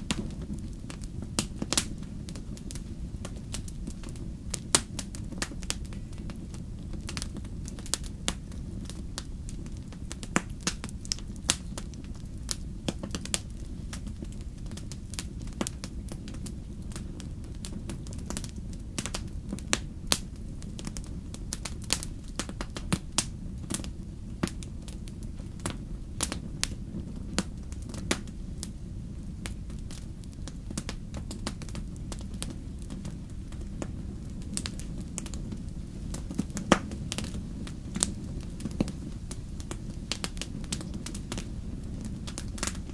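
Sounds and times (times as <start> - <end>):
campfire crackling and popping: 0.0 - 42.9
low rumble of fire: 0.0 - 42.9.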